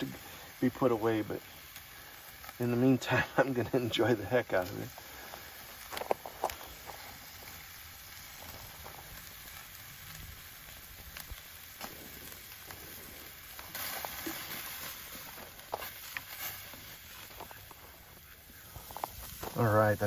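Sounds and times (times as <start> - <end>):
meat sizzling over charcoal: 0.0 - 20.0.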